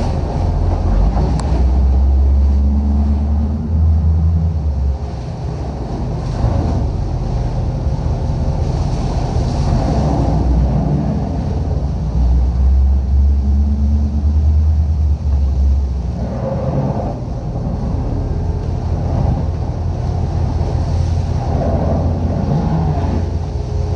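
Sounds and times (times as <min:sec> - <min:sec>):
boat engine rumbling: 0:00.0 - 0:23.9
water noise: 0:00.0 - 0:23.9
wind: 0:00.0 - 0:23.9.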